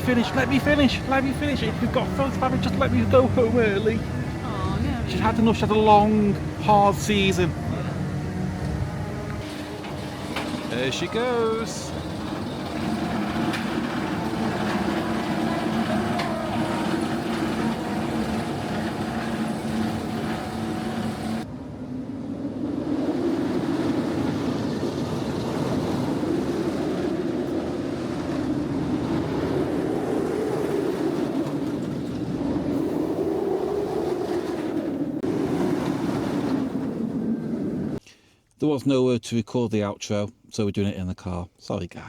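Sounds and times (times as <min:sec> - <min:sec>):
low rumble rising and falling: 0:00.0 - 0:38.0
roller coaster machinery humming: 0:00.0 - 0:38.0.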